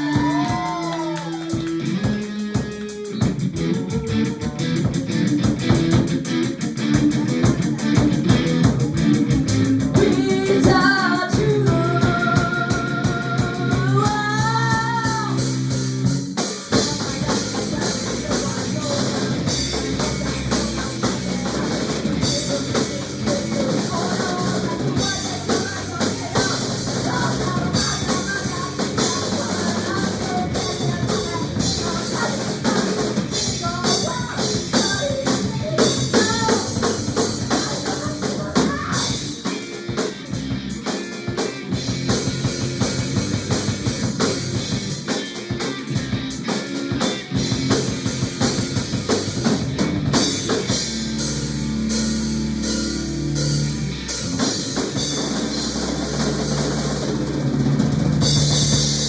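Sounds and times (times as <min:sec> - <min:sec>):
pop-rock music: 0:00.0 - 0:59.0.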